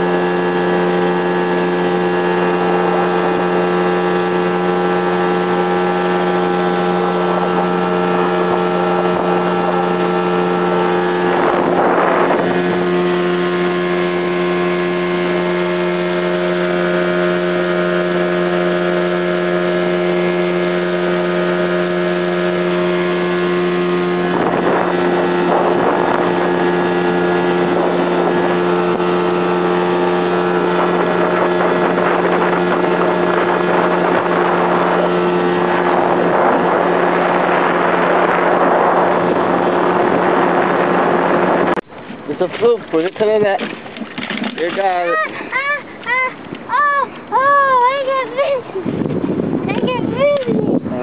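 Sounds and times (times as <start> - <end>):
motorboat engine running: 0.0 - 51.0
rushing wind and water: 0.0 - 51.0.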